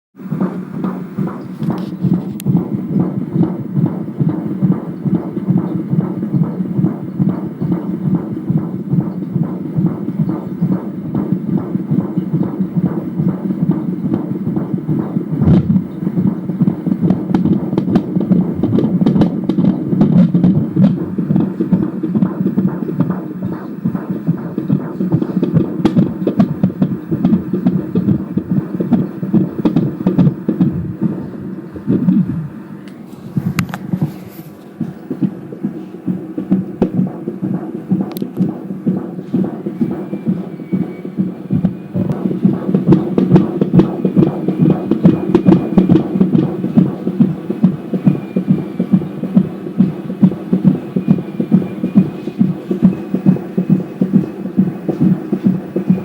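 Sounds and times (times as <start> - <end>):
fetal heartbeat pulsing: 0.2 - 32.7, 33.3 - 56.0.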